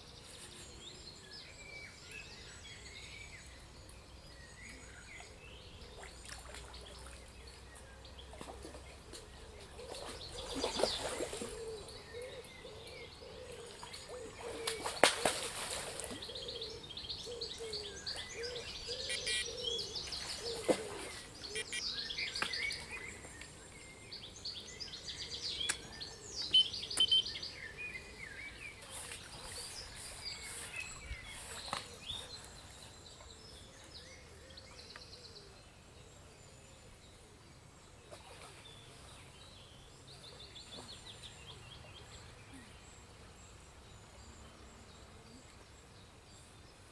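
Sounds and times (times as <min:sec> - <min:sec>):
songbirds singing and chirping: 0:00.0 - 0:46.9.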